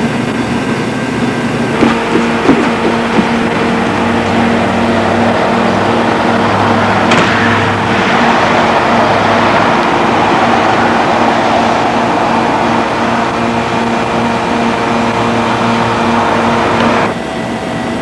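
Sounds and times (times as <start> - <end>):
mechanical drone: 0.0 - 18.0.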